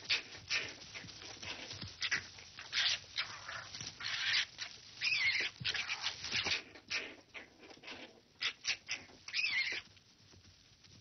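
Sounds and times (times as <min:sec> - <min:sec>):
foxes screeching: 0:00.0 - 0:09.9
scuffling noises: 0:00.0 - 0:11.0.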